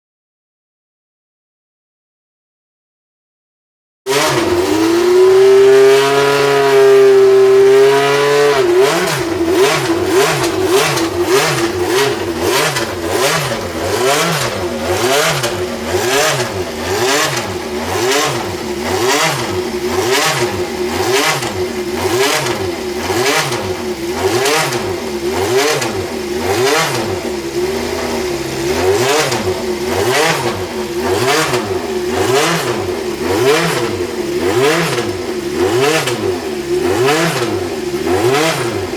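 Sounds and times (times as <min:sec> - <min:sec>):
racing car engine revving: 0:04.1 - 0:38.9.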